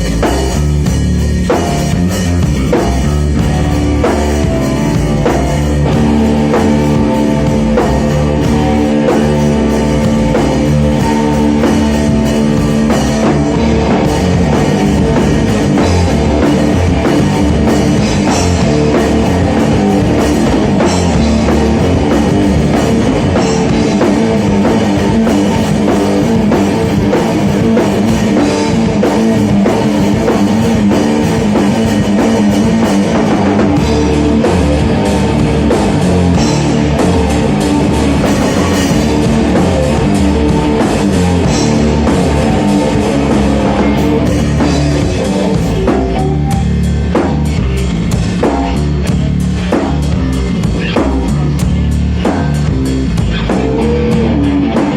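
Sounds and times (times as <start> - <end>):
rock music with drums and guitars: 0.0 - 54.9.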